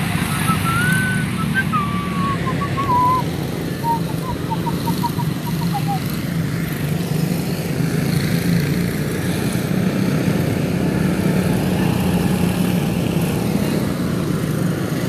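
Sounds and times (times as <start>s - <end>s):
small race car engines droning: 0.0s - 15.0s.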